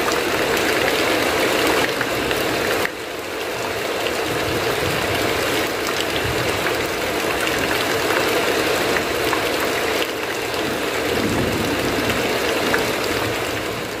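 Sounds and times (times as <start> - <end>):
heavy rain on a roof: 0.0 - 14.0
raindrops ticking: 0.0 - 14.0.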